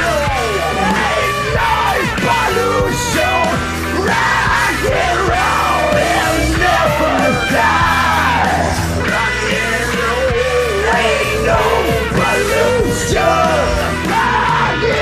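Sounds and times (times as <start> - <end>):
hard rock backing track: 0.0 - 15.0
person singing karaoke: 0.0 - 15.0.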